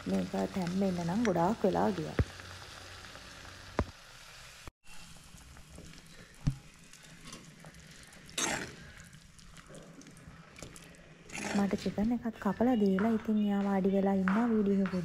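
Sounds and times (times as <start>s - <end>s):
curry sizzling in a pot: 0.0s - 13.5s.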